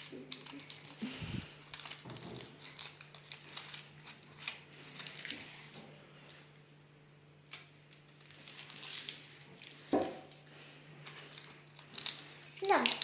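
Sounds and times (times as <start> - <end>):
chocolate wrapper crinkling: 0.0 - 5.7, 7.5 - 13.0.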